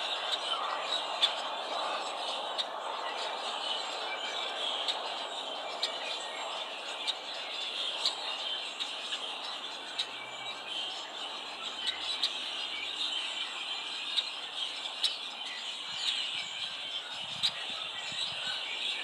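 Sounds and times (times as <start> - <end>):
songbirds chip calls: 0.0 - 19.0.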